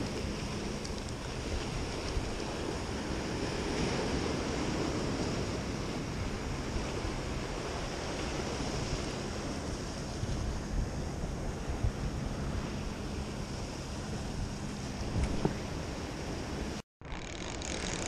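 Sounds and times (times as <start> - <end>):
ocean surf washing against rocks: 0.0 - 16.8
wind rumbling on microphone: 0.0 - 18.0.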